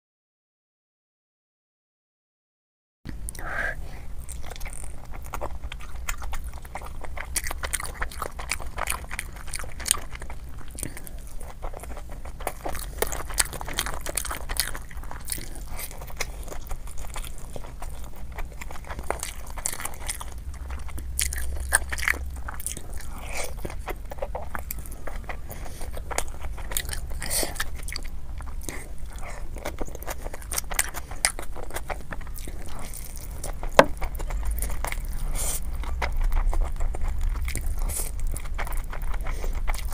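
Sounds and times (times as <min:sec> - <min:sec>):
person chewing and crunching food: 0:03.1 - 0:39.9.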